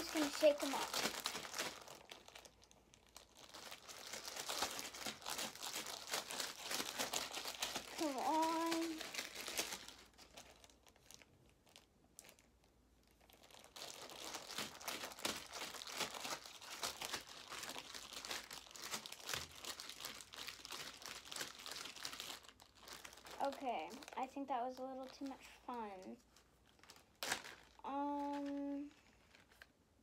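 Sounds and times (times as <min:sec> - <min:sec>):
plastic bag crinkling shaken: 0:00.0 - 0:12.5, 0:13.1 - 0:29.7.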